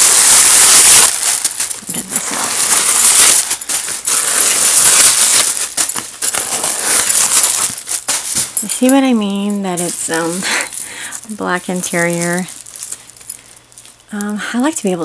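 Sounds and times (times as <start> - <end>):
paper crinkling and rustling: 1.0 - 14.1.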